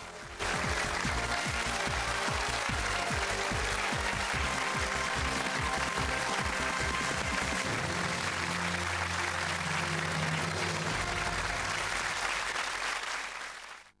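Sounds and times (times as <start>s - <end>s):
game show music: 0.0s - 13.0s
studio audience applauding: 0.0s - 14.0s.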